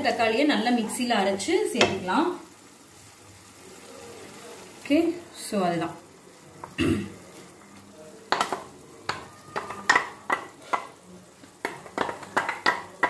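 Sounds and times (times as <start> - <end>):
faint sizzle of frying: 0.0 - 13.0.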